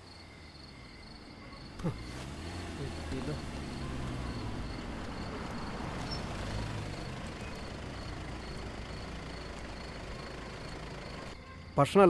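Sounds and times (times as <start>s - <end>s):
cricket chirping faintly: 0.0s - 12.0s.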